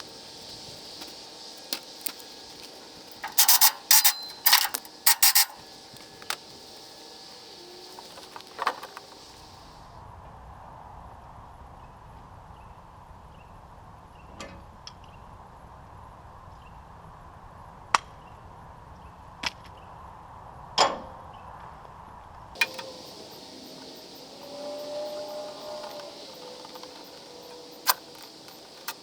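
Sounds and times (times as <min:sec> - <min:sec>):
faint steady background noise: 0:00.0 - 0:29.0.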